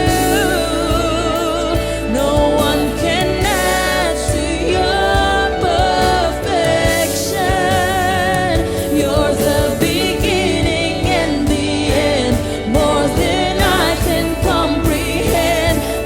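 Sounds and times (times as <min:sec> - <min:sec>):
steady drum beat: 0:00.0 - 0:16.0
voices singing with vibrato: 0:00.0 - 0:16.0.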